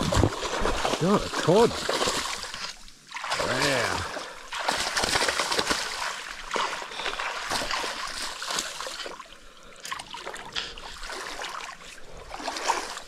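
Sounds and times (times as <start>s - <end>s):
wading in water: 0.0s - 13.0s
water splashing and sloshing: 0.0s - 13.0s.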